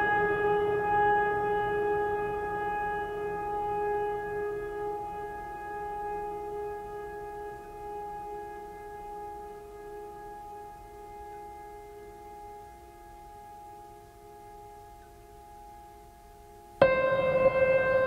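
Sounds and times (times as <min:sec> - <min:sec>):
sustained musical drone: 0:00.0 - 0:18.0.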